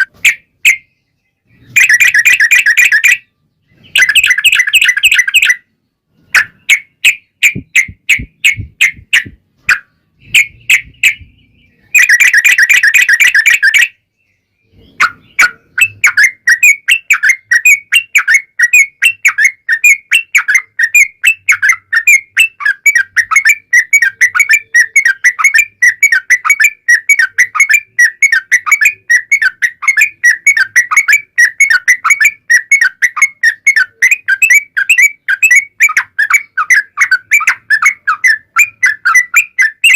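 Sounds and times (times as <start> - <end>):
bulbul bubbly chattering song: 1.7 - 3.2, 3.9 - 5.6, 6.4 - 13.9, 15.0 - 39.9.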